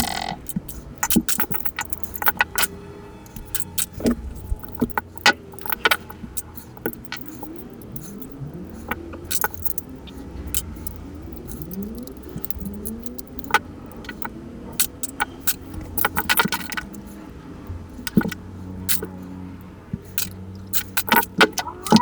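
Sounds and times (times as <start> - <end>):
clicks and clinks of tools: 0.0 - 17.2, 18.0 - 19.2, 20.0 - 22.0
low steady hum: 0.0 - 21.2.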